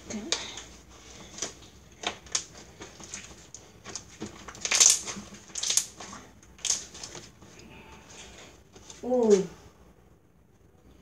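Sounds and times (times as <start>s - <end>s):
slime squishing: 0.2s - 9.4s.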